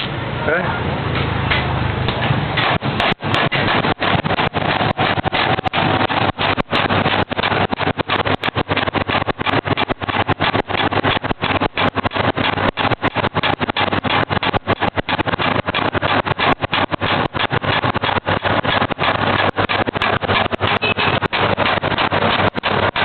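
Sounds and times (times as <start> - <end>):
machine running with low hum: 0.0 - 23.0.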